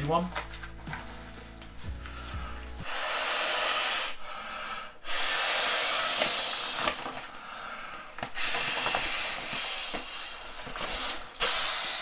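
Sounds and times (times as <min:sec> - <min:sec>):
breath blowing into pillow valve: 0:01.1 - 0:12.0
person inhaling: 0:01.4 - 0:12.0.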